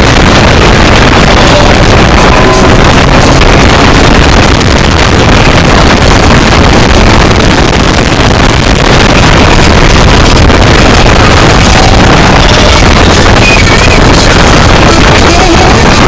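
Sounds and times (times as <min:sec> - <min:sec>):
car engine in cabin: 0:00.0 - 0:16.0
wind noise: 0:00.0 - 0:16.0.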